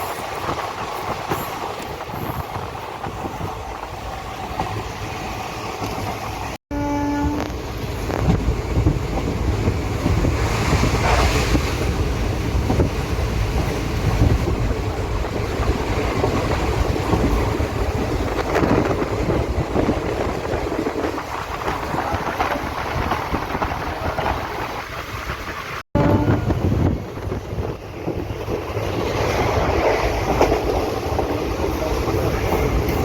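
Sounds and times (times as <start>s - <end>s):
wind noise on microphone: 0.0s - 4.8s, 5.7s - 33.0s
train rumbling along track: 0.0s - 33.0s.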